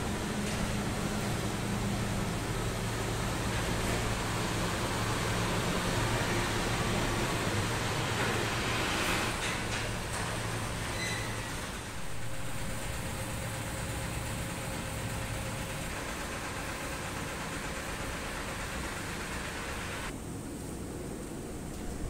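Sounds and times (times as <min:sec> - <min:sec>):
diesel truck engines idling: 0:00.0 - 0:10.9, 0:11.5 - 0:20.1.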